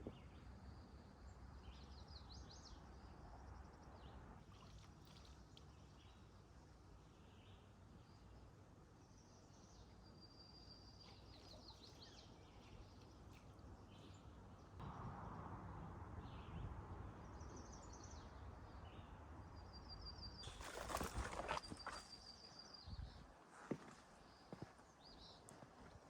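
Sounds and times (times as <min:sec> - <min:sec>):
small birds chirping: 0:00.0 - 0:14.8, 0:16.2 - 0:25.6.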